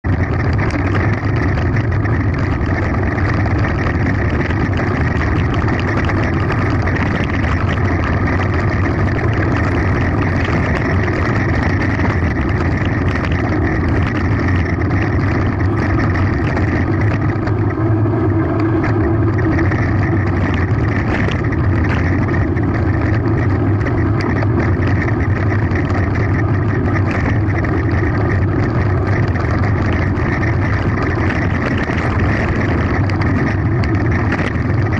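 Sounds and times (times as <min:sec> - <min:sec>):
bike rattling: 0:00.0 - 0:34.9
tyres rolling over gravel: 0:00.1 - 0:34.9.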